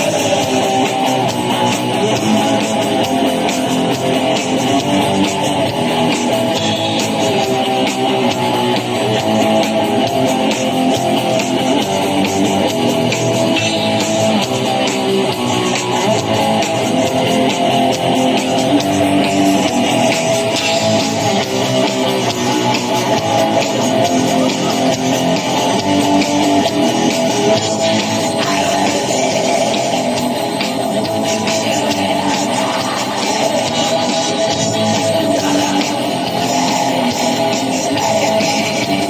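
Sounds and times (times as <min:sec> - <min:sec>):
distorted electric guitars: 0:00.0 - 0:39.0
rapid dense drumming: 0:00.0 - 0:39.0.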